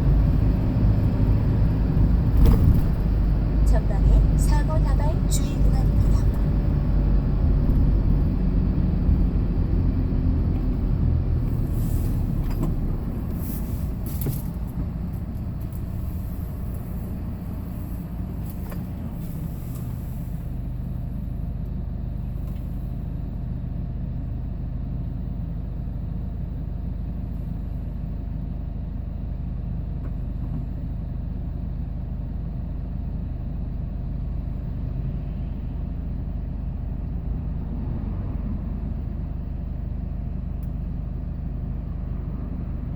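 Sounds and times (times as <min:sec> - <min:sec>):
truck engine hum: 0:00.0 - 0:42.9.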